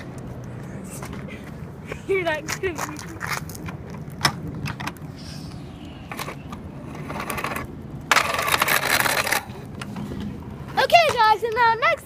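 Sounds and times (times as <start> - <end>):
plastic trike rolling on concrete: 0.0 - 12.0.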